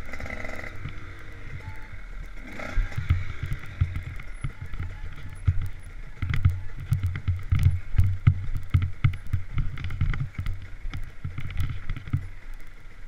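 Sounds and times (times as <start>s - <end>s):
bike rattling and knocking: 0.0s - 13.0s
dirt bike engine at low revs: 0.0s - 13.0s.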